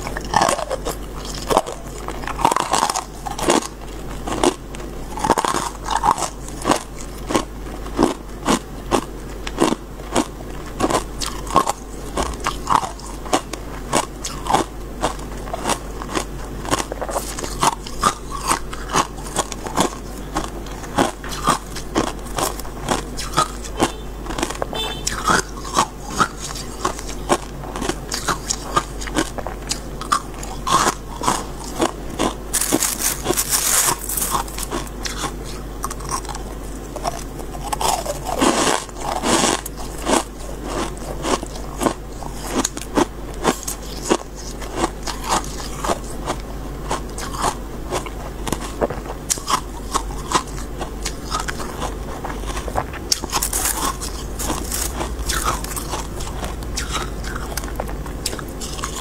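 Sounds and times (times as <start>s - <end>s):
chewing crisp frost crunches: 0.0s - 59.0s.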